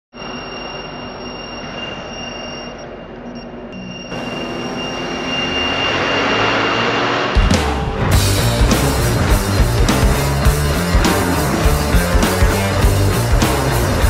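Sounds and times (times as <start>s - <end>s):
drone motors whining: 0.2s - 12.7s.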